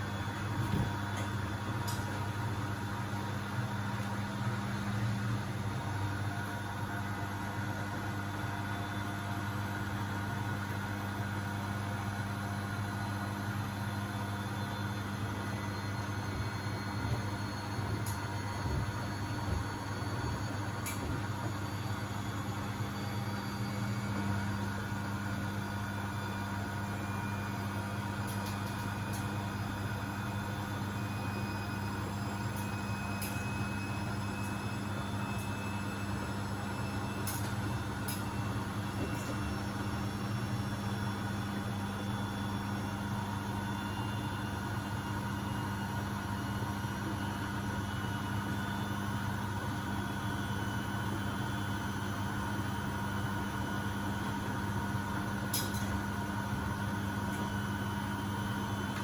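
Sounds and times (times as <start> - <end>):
thin motor whine: 0.0 - 59.0
washing machine spinning hum: 0.0 - 59.0.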